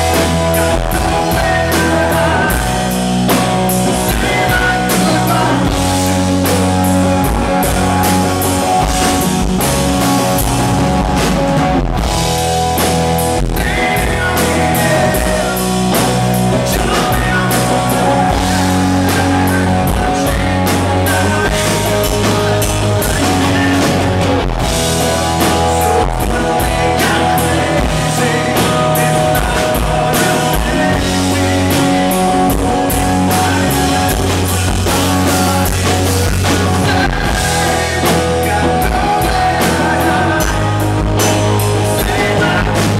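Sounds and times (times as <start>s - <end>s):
man singing into microphone: 0.0s - 9.1s, 13.3s - 42.9s
rock band playing: 0.0s - 42.9s.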